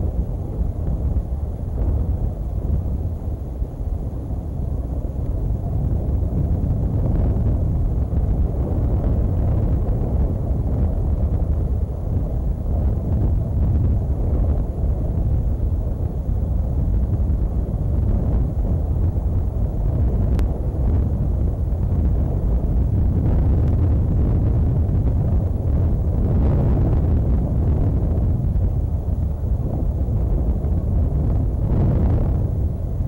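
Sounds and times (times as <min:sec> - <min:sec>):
low rumbling wind noise: 0:00.0 - 0:33.0.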